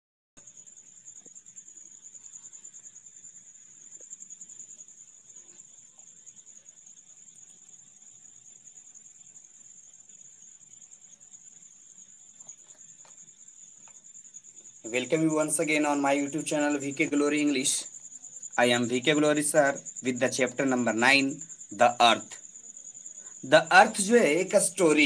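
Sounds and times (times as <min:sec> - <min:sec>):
crickets trilling: 0:00.4 - 0:25.0.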